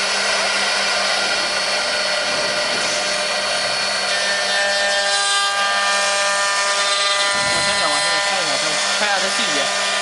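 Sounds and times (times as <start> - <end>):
wood router spindles whining: 0.0 - 10.0.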